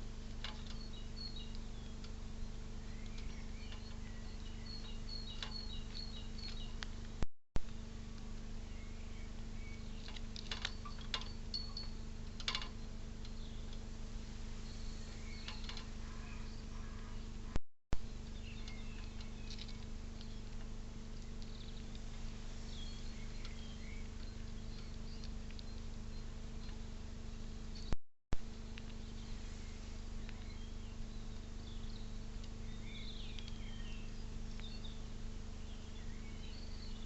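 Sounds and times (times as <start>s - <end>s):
electrical hum and hiss: 0.0s - 37.0s
faint bird chirps: 0.5s - 6.9s, 8.6s - 13.8s, 14.4s - 28.0s, 28.9s - 37.0s.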